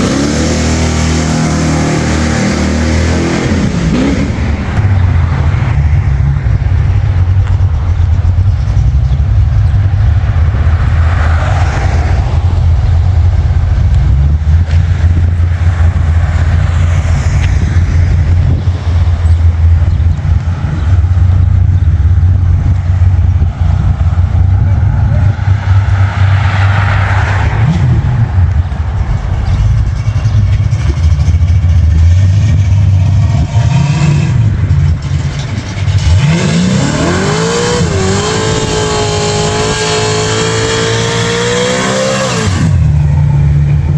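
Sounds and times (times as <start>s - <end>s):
engine exhaust rumble: 0.0s - 43.9s.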